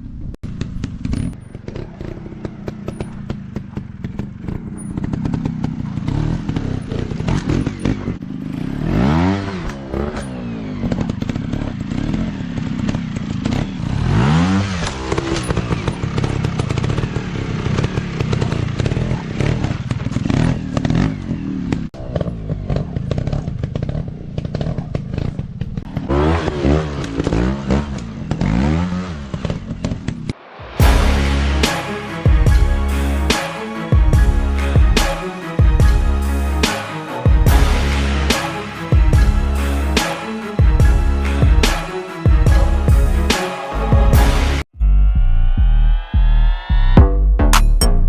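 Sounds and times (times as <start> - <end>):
dirt bike engine revving: 0.6 - 44.7.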